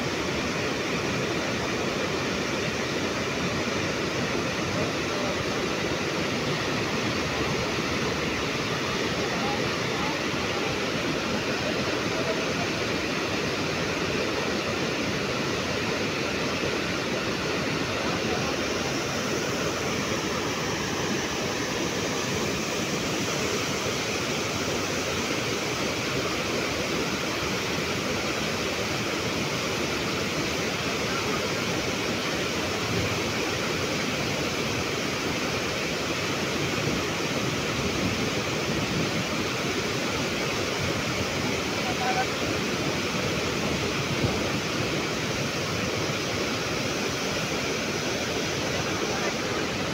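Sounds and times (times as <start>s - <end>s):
water rushing over rocks: 0.0s - 49.9s.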